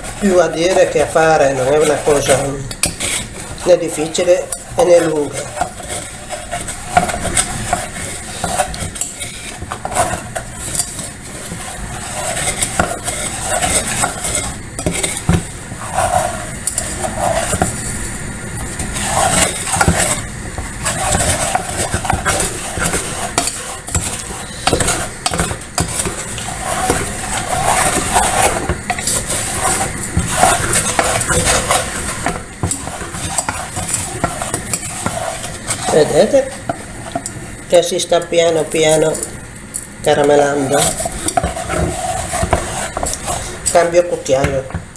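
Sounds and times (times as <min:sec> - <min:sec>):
spoon scraping a pot: 0:00.0 - 0:44.9.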